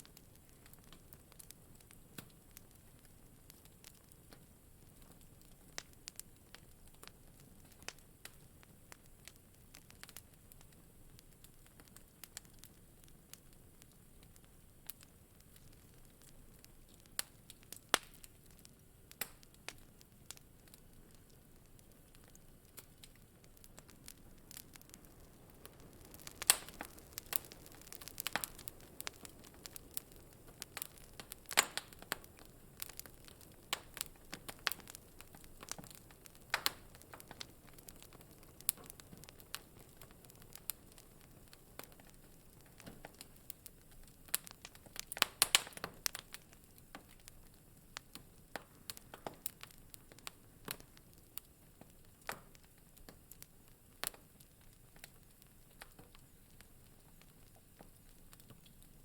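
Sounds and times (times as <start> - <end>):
soft low hiss: 0.0 - 59.0
wood fire crackling and popping: 0.0 - 59.0.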